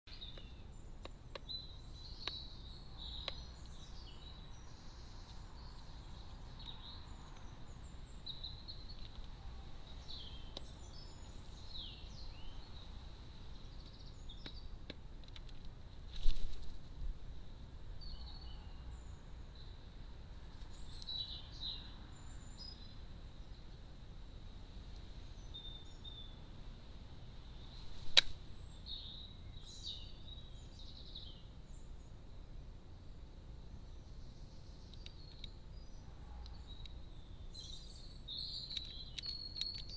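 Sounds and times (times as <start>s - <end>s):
songbirds chirping: 0.1s - 39.9s
steady low hiss: 0.1s - 39.9s.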